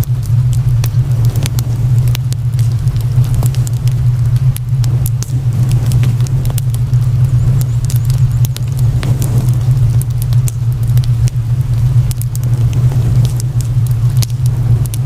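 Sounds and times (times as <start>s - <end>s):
loud low hum: 0.0s - 15.0s
wood fire crackling and popping: 0.0s - 15.0s.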